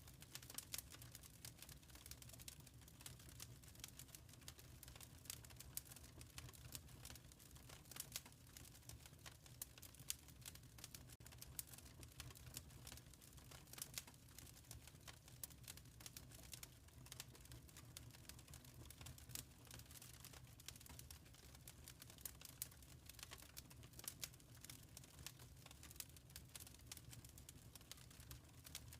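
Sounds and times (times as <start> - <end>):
flames rumbling softly: 0.0 - 28.9
wood fire crackling: 0.0 - 28.9.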